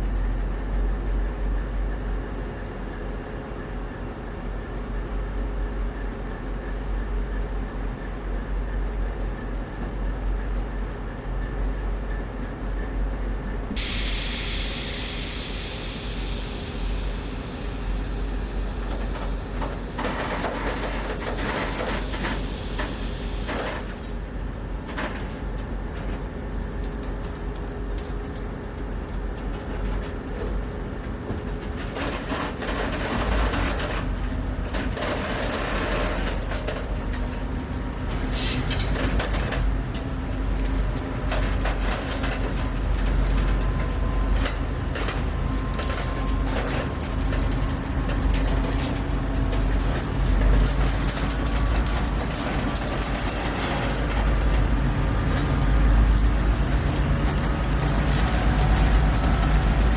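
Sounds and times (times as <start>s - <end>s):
train rumbling on rails: 0.0s - 59.9s.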